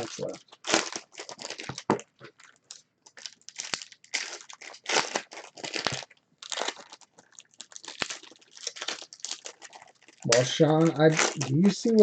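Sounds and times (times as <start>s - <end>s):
card pack wrappers crinkling: 0.0s - 12.0s.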